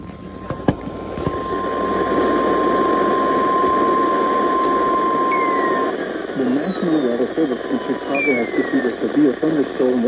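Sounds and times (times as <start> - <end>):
crackling radio static: 0.0 - 10.0
steady alarm tone: 0.2 - 10.0.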